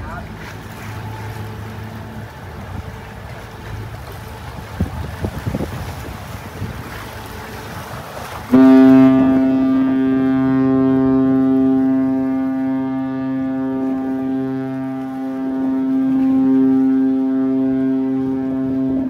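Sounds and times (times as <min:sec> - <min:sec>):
ship's horn long blast: 0:00.2 - 0:19.0.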